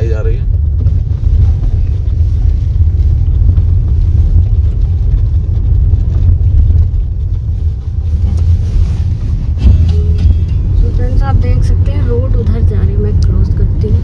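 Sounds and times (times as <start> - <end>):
car driving on dirt road: 0.0 - 14.0.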